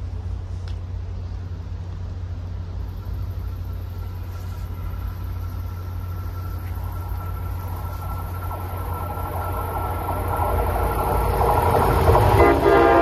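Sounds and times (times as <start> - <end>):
distant train rumble: 0.0 - 13.0
faint steady whine: 0.0 - 13.0.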